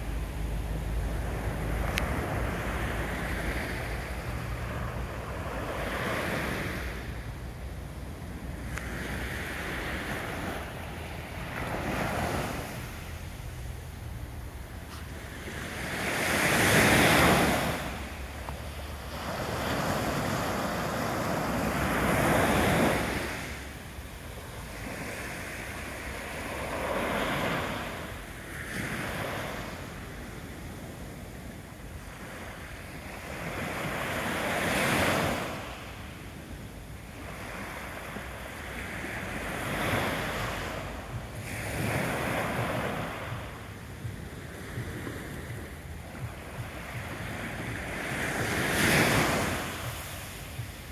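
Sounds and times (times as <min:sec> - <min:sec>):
small waves washing up beach: 0:00.0 - 0:50.9.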